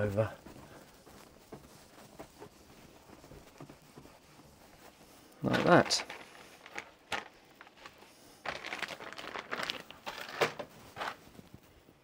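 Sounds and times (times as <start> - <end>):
cloth rustling and crinkling: 0.0 - 12.0.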